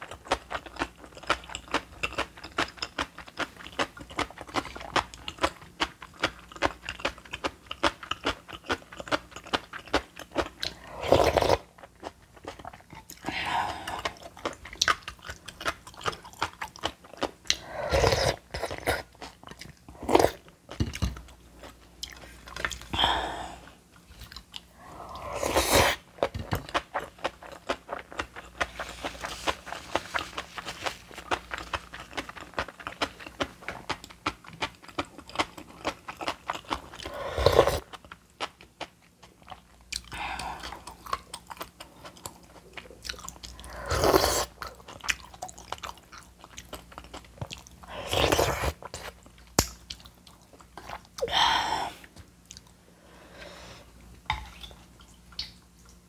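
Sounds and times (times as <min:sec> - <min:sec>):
person chewing crunchy food: 0:00.0 - 0:52.8.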